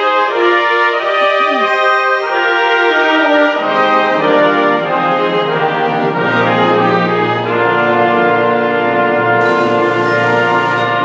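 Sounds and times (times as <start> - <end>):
symphony orchestra with brass: 0.0 - 11.0.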